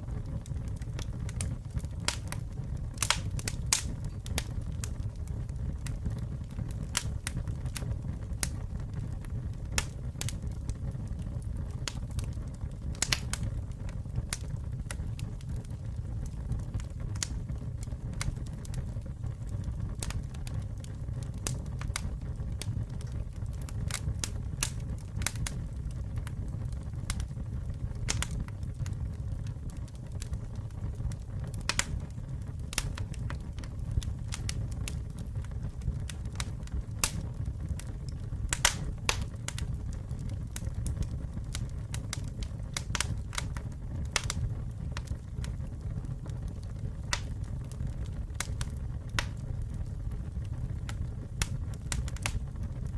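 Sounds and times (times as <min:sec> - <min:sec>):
campfire crackling and popping: 0:00.0 - 0:52.9
low rumble of flames: 0:00.0 - 0:52.9.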